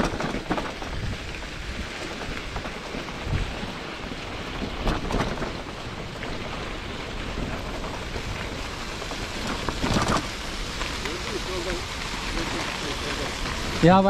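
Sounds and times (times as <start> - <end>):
bike knocking over bumps: 0.0 - 14.0
bike tyres on loose ground: 0.0 - 14.0.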